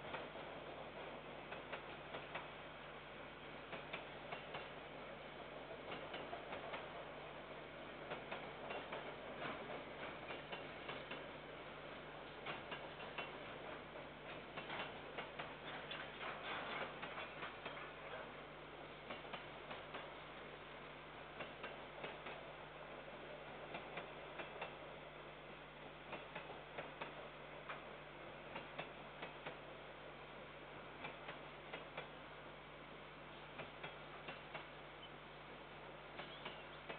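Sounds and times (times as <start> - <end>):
train wheels clicking on rails: 0.0 - 32.5, 33.3 - 35.0, 35.6 - 36.9
steady low hum: 0.0 - 36.9.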